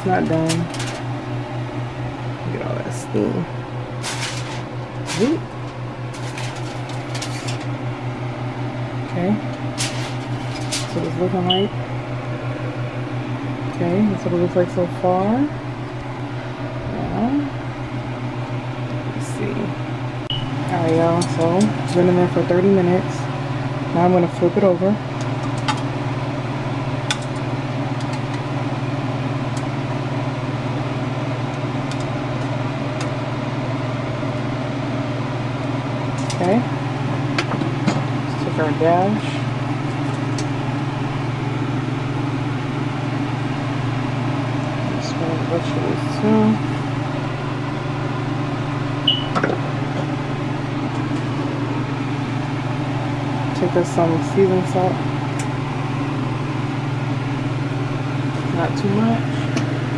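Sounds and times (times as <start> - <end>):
appliance humming: 0.0 - 59.9.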